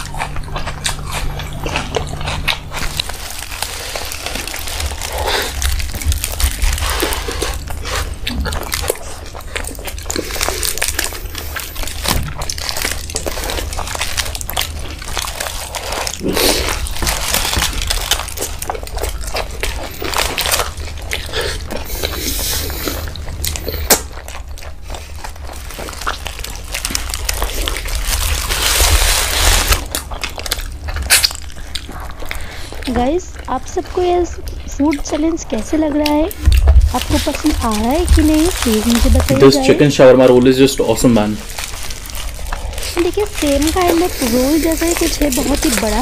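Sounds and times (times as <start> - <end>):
chewing and biting food: 0.0 - 46.0.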